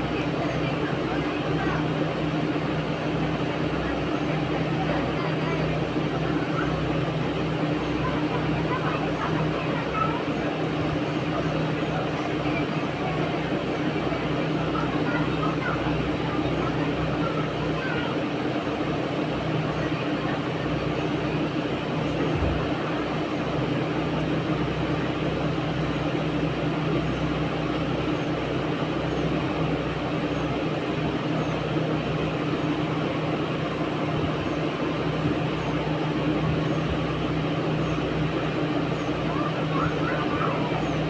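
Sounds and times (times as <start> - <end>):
mechanical hum: 0.0 - 41.0.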